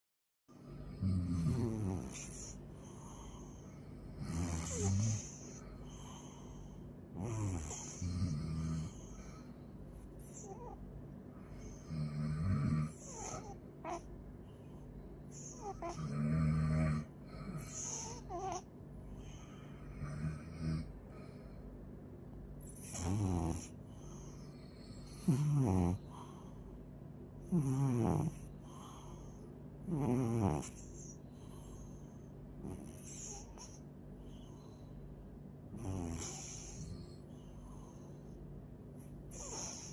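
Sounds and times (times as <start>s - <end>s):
pet snoring: 0.7s - 10.8s, 11.5s - 14.1s, 15.3s - 21.4s, 22.6s - 26.5s, 27.4s - 32.0s, 32.6s - 34.8s, 35.7s - 38.3s, 39.0s - 39.9s.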